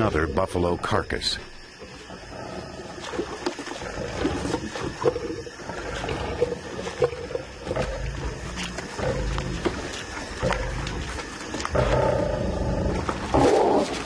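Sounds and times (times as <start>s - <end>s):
lions snarling: 1.7s - 14.0s.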